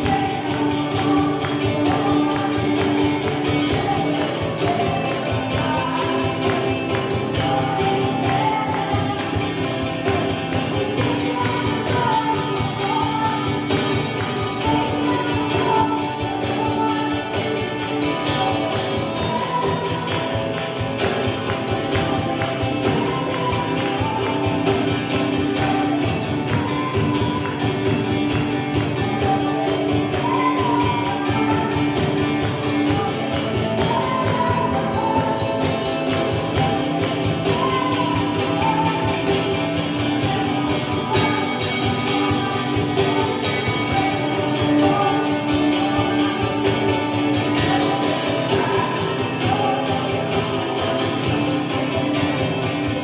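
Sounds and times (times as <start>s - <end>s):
worship singing over a band: 0.0s - 53.0s.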